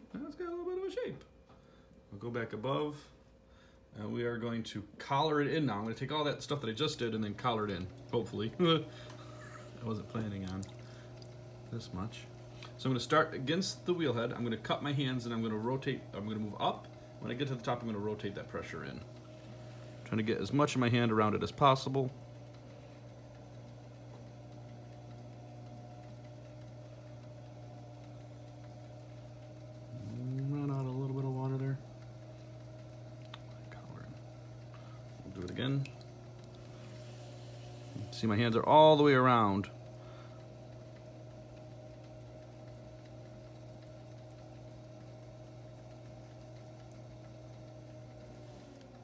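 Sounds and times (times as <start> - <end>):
pottery wheel motor humming: 0.0 - 49.0.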